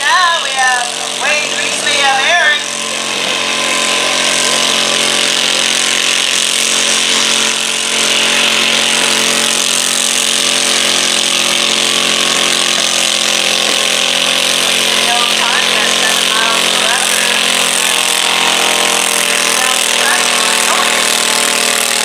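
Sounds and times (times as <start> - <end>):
tractor engine under heavy load: 0.0 - 22.0.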